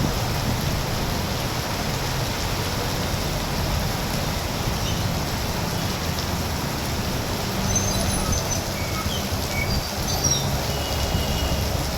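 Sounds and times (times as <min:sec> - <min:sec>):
torrential rain pouring: 0:00.0 - 0:11.9.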